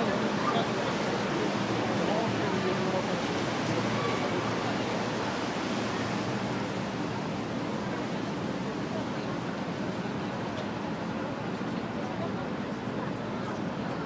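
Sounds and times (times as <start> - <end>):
water washing past hull: 0.0 - 14.0.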